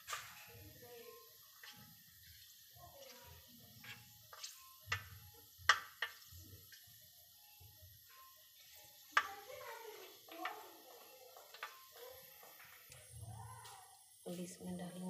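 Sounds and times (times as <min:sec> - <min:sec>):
hot oil crackling and popping: 0:00.0 - 0:15.0.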